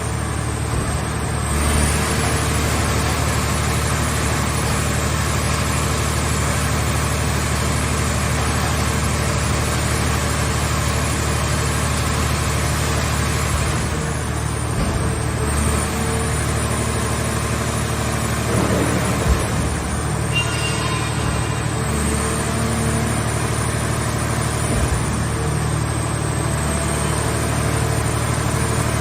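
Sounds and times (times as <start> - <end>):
baler machinery droning: 0.0 - 29.0.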